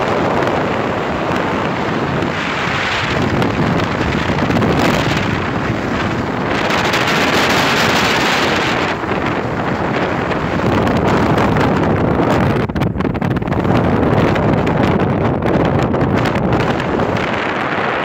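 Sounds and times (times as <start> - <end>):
car road noise: 0.0 - 18.0
wind rushing over microphone: 0.0 - 18.0.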